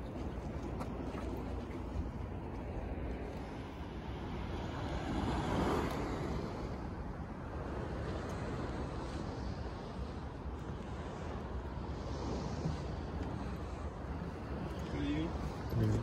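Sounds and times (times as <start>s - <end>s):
sea water lapping: 0.0s - 16.0s
wind rumble on microphone: 0.0s - 16.0s.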